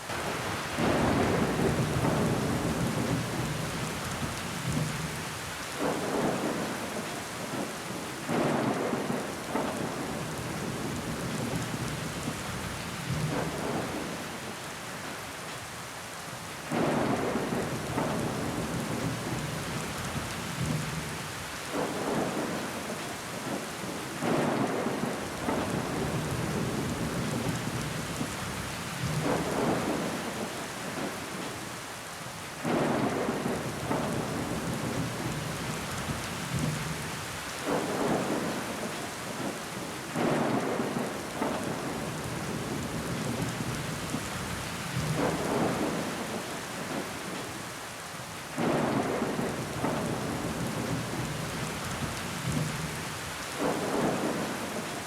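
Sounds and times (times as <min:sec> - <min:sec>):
rain against window glass: 0:00.0 - 0:55.0.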